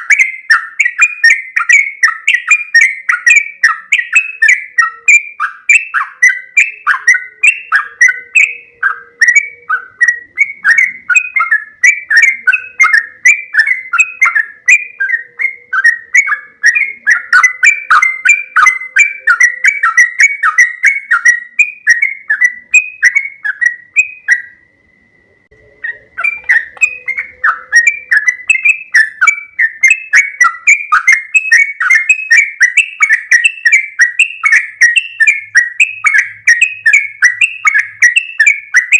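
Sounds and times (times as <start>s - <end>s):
bird singing bubbly notes: 0.0s - 38.9s.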